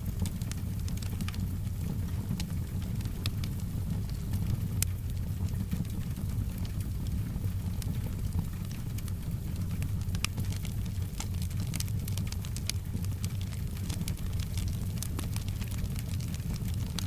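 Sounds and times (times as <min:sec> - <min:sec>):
soft rain: 0:00.0 - 0:17.0
wood fire crackling and popping: 0:00.0 - 0:17.0.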